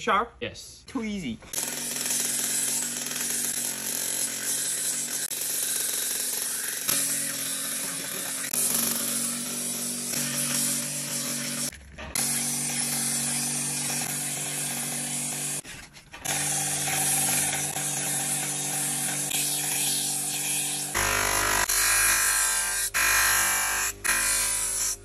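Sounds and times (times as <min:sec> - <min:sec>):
belt grinder grinding metal: 0:01.4 - 0:25.0
buffing wheel polishing: 0:01.5 - 0:21.8.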